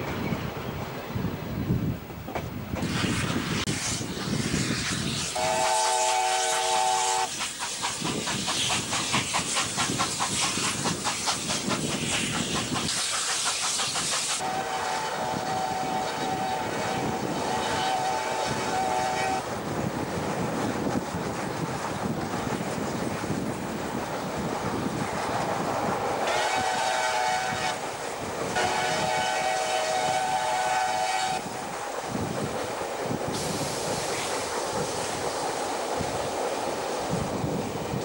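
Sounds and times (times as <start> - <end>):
steam hissing: 2.7 - 38.0.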